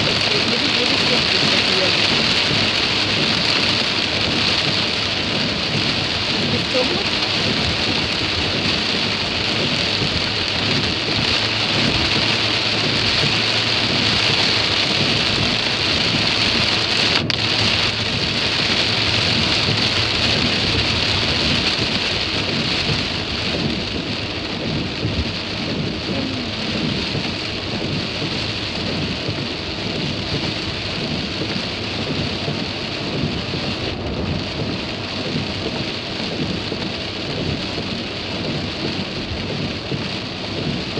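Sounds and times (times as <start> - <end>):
heavy rain on a car: 0.0 - 40.9
low rumble of moving car: 0.0 - 40.9.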